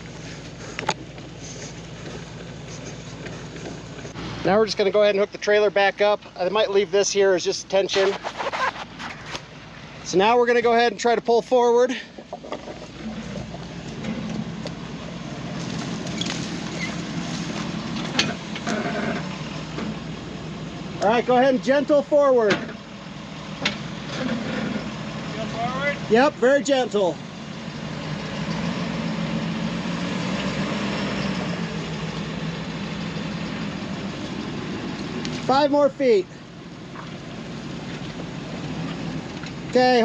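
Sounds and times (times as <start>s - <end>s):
truck engine idling: 0.0s - 40.0s.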